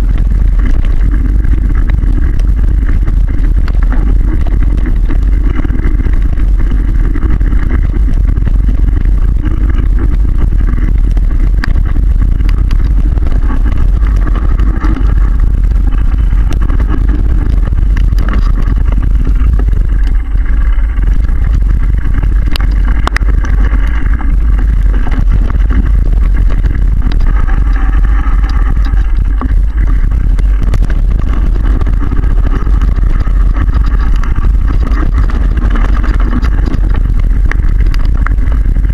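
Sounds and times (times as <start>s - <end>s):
bike rattling on dirt trail: 0.0s - 38.9s
wind on microphone: 0.0s - 38.9s.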